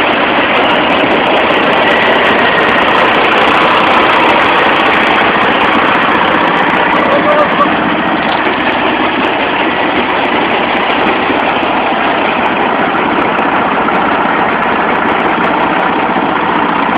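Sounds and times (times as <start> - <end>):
diesel engine running steadily: 0.0 - 16.9.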